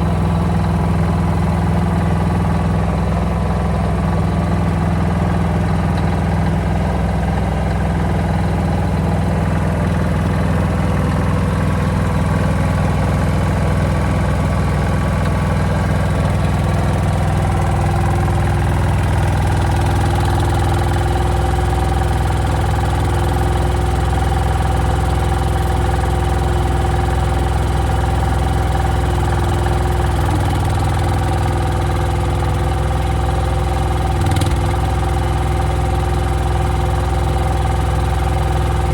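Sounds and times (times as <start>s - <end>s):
small diesel engine running: 0.0s - 38.9s.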